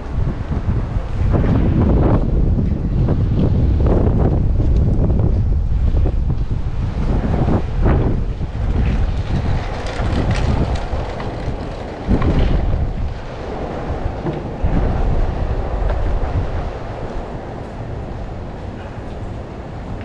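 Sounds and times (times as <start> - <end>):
low rumble of vehicles: 0.0 - 20.0
wind buffeting microphone: 0.0 - 20.0.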